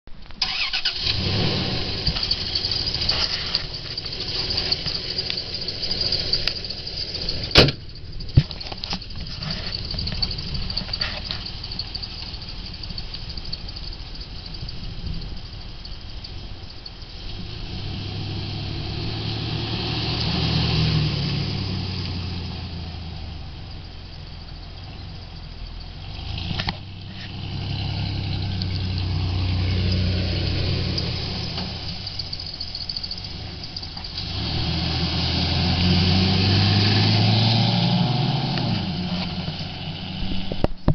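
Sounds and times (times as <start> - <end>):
pickup truck engine running: 0.3 - 40.9.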